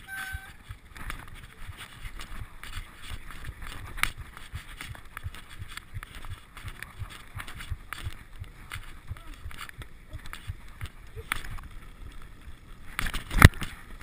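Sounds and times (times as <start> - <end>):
tyres on dirt and roots: 0.0 - 14.0.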